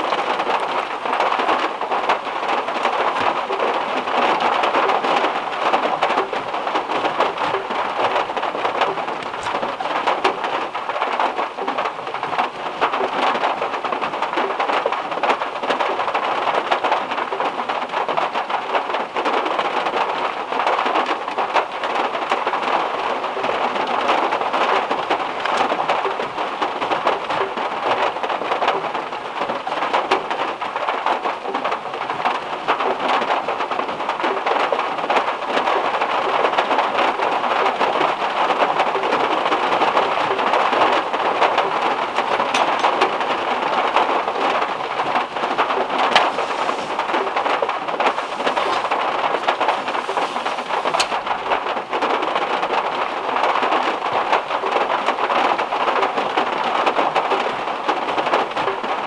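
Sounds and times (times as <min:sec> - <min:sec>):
heavy rain on metal car roof: 0:00.0 - 0:59.0.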